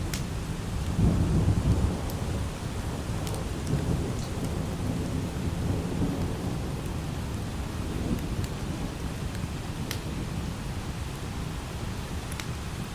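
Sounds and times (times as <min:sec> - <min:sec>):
rolling thunder: 0:00.0 - 0:10.6
light rain: 0:00.0 - 0:12.9.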